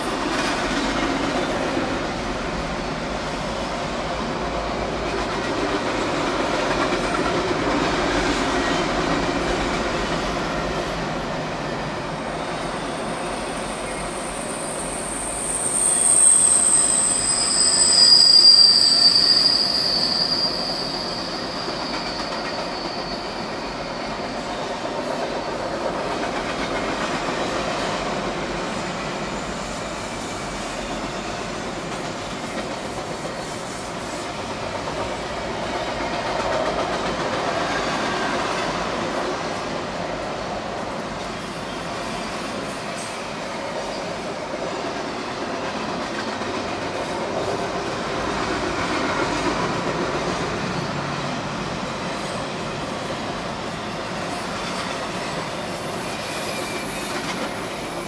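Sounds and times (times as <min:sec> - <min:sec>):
freight train rumbling and clattering: 0:00.0 - 0:58.0
steel wheels squealing on rail: 0:00.0 - 0:58.0.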